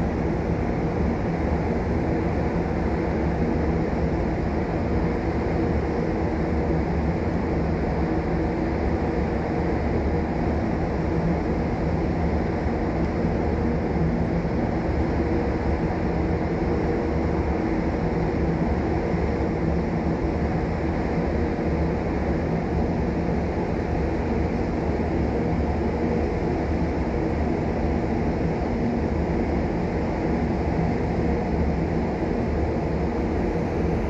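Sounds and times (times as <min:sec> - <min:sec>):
constant hum: 0:00.0 - 0:34.0.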